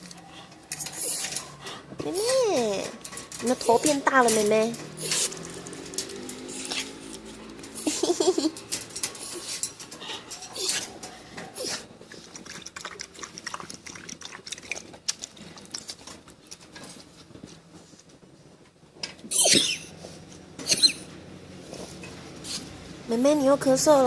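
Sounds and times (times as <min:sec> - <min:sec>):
dog paws clicking and pattering: 0:00.0 - 0:19.7.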